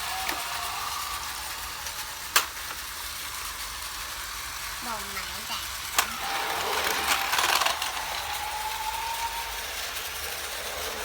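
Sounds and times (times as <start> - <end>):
toy mechanism clicking and ratcheting: 0.0 - 11.0.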